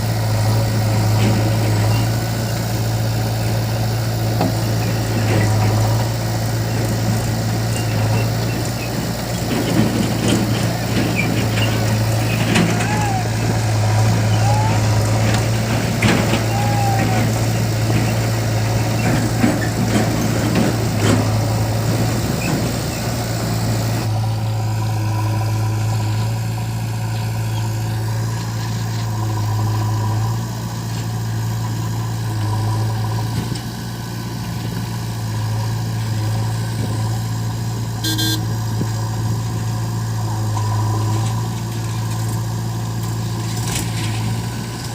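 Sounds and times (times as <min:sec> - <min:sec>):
heavy machinery diesel engine: 0:00.0 - 0:44.9.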